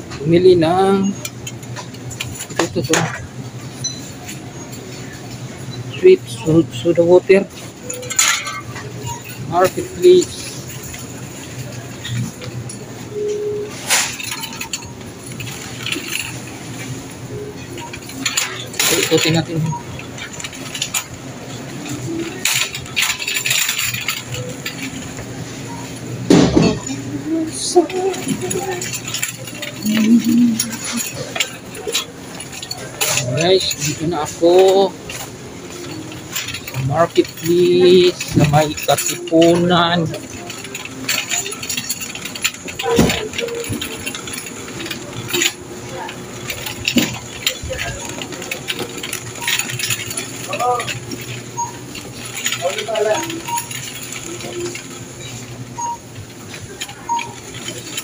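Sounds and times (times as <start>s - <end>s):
shop background noise: 0.0s - 58.0s
light clinking and rattling: 7.6s - 58.0s.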